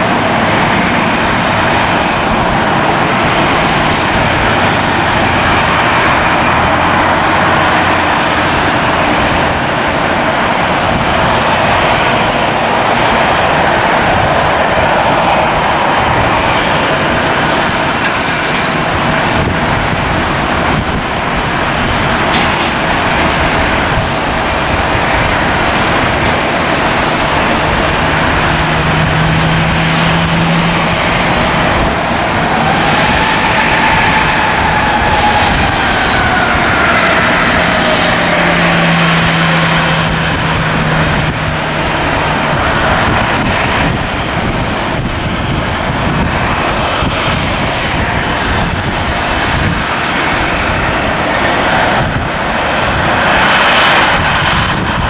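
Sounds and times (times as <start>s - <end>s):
jet engines whining: 0.0s - 55.0s
wind buffeting microphone: 0.0s - 55.0s.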